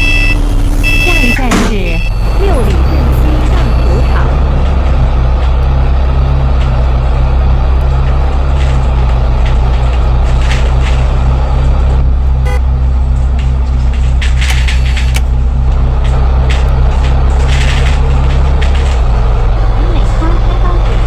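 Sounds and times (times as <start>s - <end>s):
bus engine droning: 0.0s - 21.0s
rattles and clicks: 0.0s - 21.0s.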